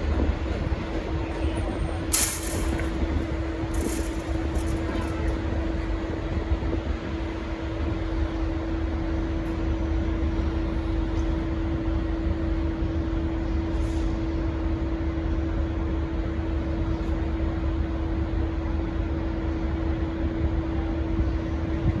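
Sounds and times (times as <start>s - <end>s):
diesel train rumbling: 0.0s - 22.0s.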